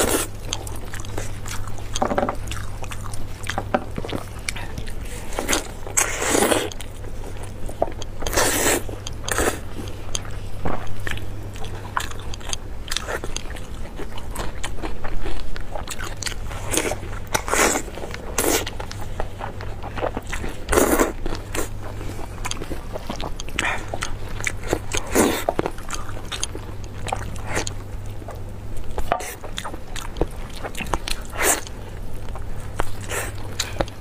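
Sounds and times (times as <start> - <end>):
chewing: 0.0 - 34.0.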